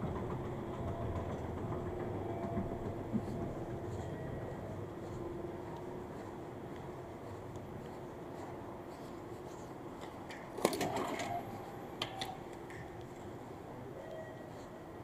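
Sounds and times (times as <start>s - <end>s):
concourse hum: 0.0s - 15.0s.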